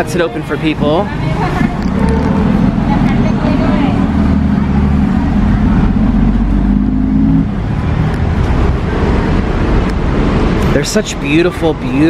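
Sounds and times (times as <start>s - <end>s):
road traffic rumble: 0.0s - 12.0s
vehicle engine humming: 0.0s - 12.0s.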